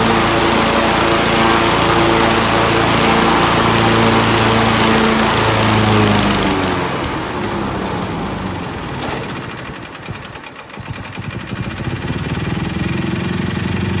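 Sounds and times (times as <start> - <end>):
engine stumbling: 0.0 - 14.0.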